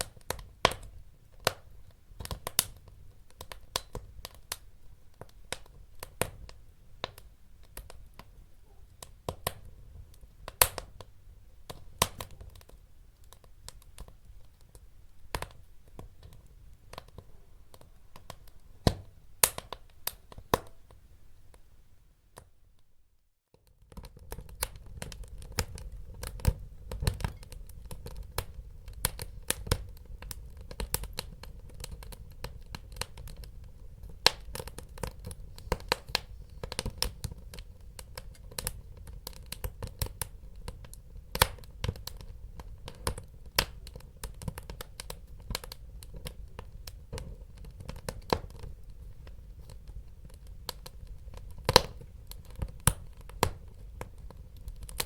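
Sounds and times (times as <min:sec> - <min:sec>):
wood fire crackling and popping: 0:00.0 - 0:21.6, 0:23.5 - 0:55.0.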